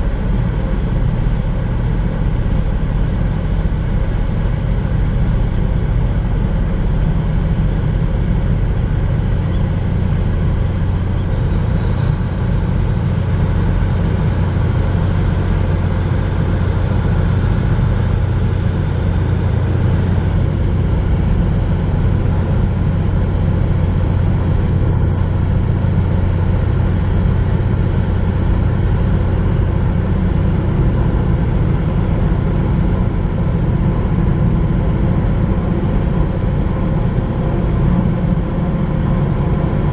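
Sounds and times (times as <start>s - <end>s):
ship diesel engines droning: 0.0s - 39.9s.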